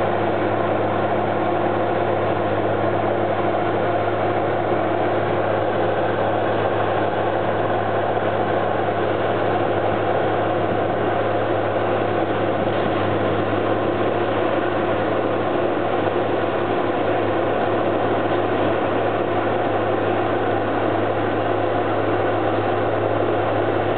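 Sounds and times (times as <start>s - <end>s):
forestry mulcher droning: 0.0s - 23.9s.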